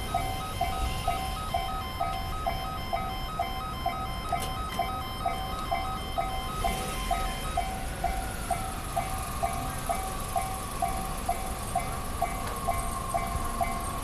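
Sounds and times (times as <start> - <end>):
level crossing warning bell: 0.0 - 14.0
passing train whine: 0.0 - 14.0.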